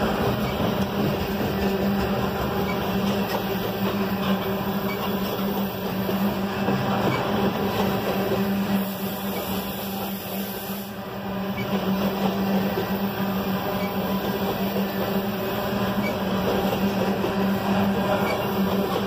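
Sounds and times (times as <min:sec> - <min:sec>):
steel train wheels rumbling on rail: 0:00.0 - 0:19.0.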